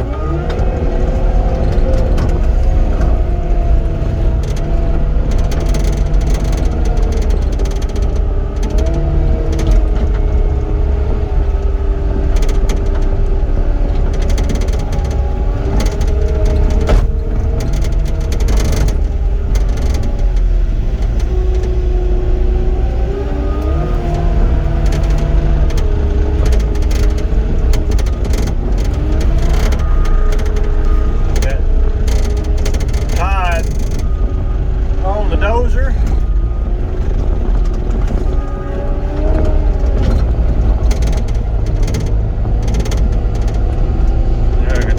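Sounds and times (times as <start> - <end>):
machine knocks and rattles: 0.0 - 44.6
diesel track loader running: 0.0 - 44.9.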